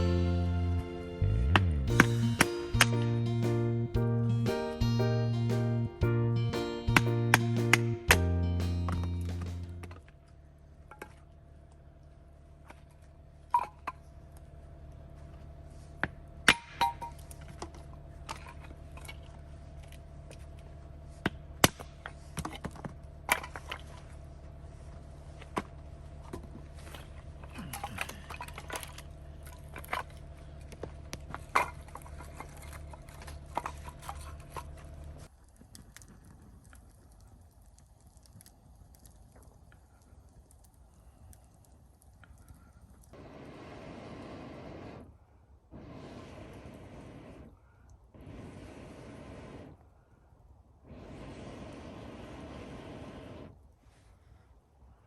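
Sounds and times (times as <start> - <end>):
steady low hum: 0.0 - 35.3, 42.4 - 53.7.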